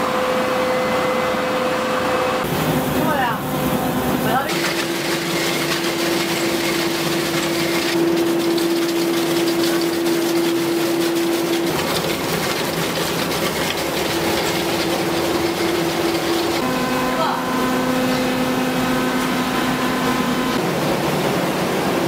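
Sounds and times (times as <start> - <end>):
constant machine hum: 0.0 - 22.0
mining machine cutter running: 0.0 - 22.0.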